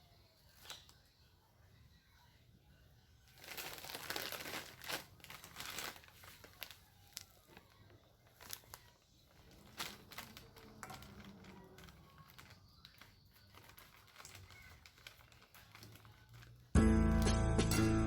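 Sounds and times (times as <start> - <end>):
material crinkling and rustling: 0.2 - 1.4, 3.1 - 16.8.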